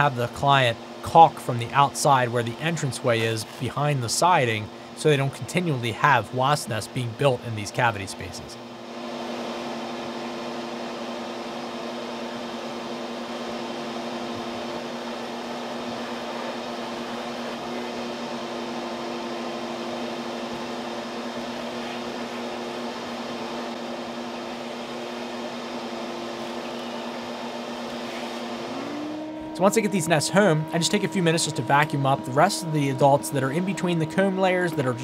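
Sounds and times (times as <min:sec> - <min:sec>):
vacuum humming with rushing air: 0:00.0 - 0:35.0.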